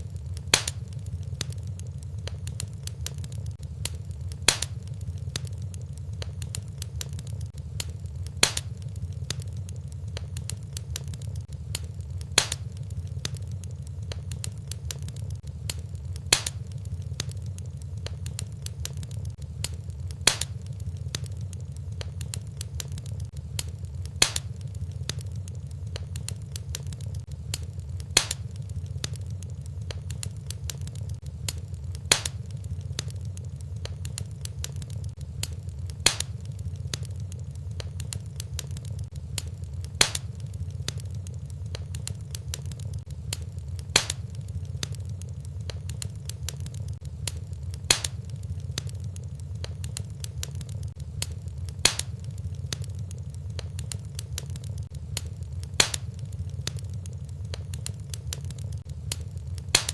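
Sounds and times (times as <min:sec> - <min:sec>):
fire crackling: 0:00.0 - 0:59.9
low rumble: 0:00.0 - 0:59.9
sharp fire pops: 0:00.0 - 0:59.9.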